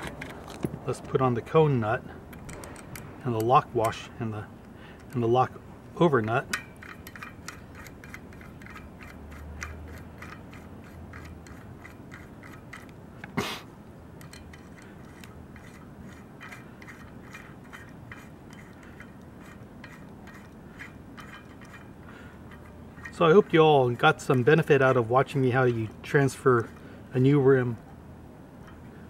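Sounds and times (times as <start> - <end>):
small metal ticks and clicks: 2.3 - 5.4, 6.1 - 13.4, 14.2 - 27.9.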